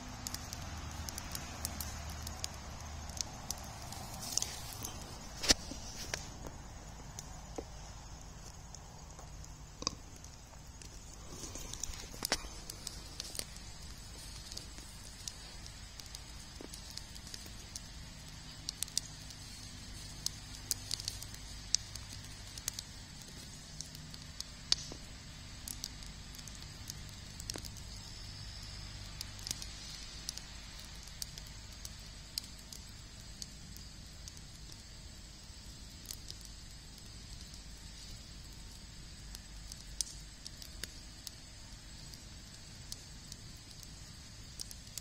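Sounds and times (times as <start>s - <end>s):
sharp pops from fire: 0.0s - 45.0s
wood fire crackling: 0.0s - 45.0s.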